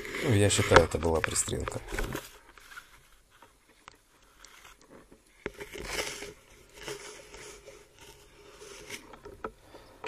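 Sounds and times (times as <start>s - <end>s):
underwater crackling and rustling: 0.0s - 9.8s.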